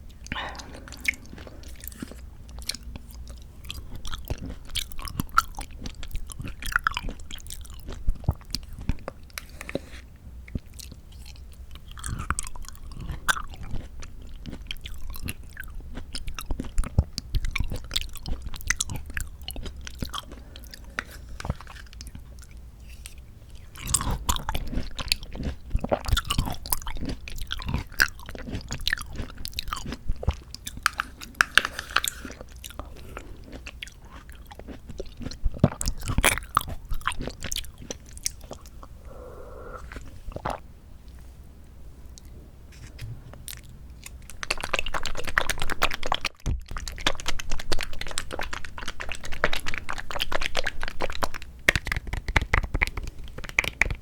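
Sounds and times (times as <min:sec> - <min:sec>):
chewing fruit: 0:00.0 - 0:41.2, 0:42.1 - 0:54.0.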